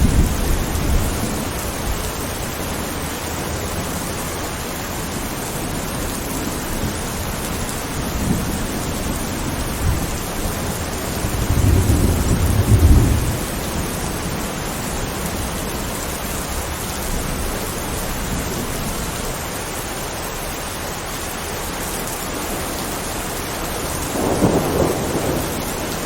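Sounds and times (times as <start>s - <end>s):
thunder rumbling: 0.0s - 19.3s, 22.2s - 26.0s
steady rain: 0.0s - 26.0s.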